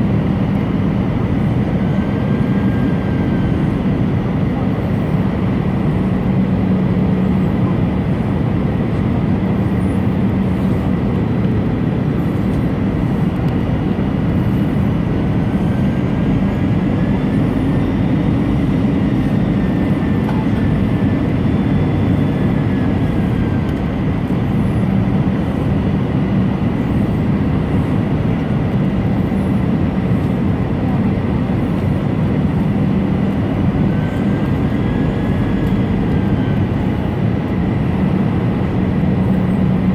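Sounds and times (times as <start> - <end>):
aircraft cabin jet engine noise: 0.0 - 39.9.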